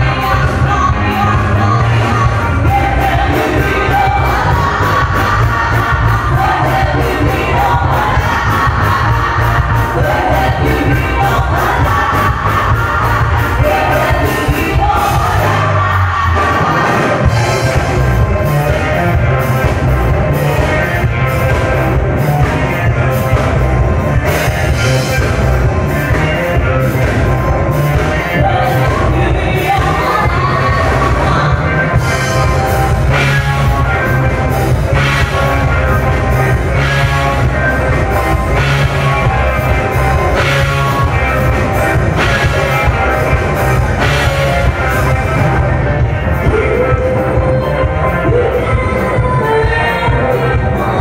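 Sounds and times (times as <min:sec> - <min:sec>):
crowd noise: 0:00.0 - 0:51.0
live band with singer: 0:00.0 - 0:51.0.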